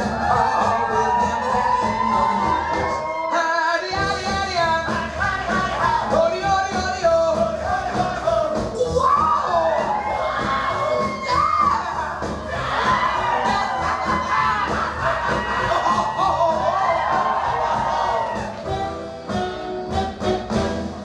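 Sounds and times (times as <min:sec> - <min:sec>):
big-band swing music with vocals: 0:00.0 - 0:21.0.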